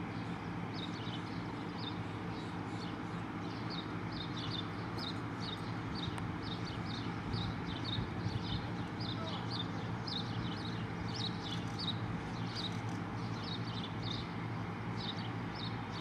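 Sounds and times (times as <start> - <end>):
pump engine droning: 0.0 - 16.0.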